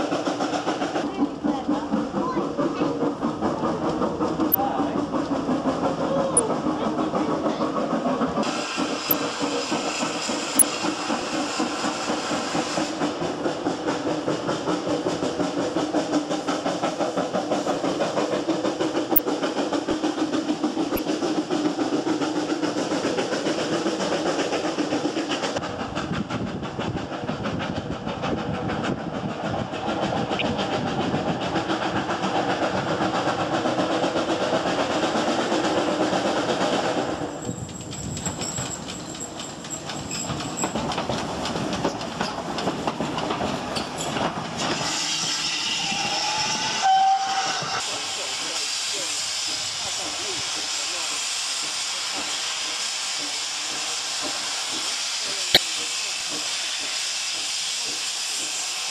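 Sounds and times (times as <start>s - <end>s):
steam hissing: 0.0s - 37.8s, 44.4s - 58.9s
train wheels clattering on rail: 0.0s - 58.9s.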